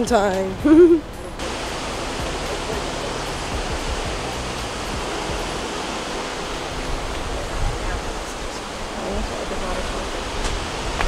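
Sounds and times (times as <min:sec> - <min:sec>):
waterfall rushing: 0:01.4 - 0:11.0.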